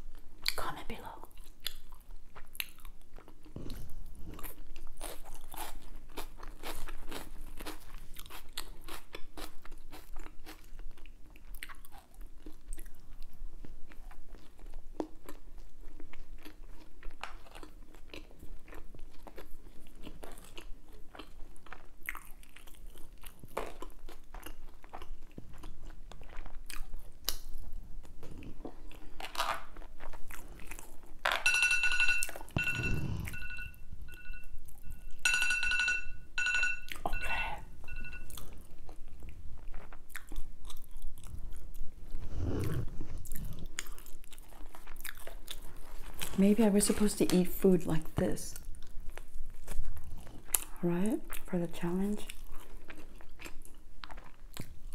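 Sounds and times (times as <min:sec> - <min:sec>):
person chewing and crunching food: 0:00.0 - 0:35.4, 0:36.3 - 0:47.8, 0:48.5 - 0:54.9.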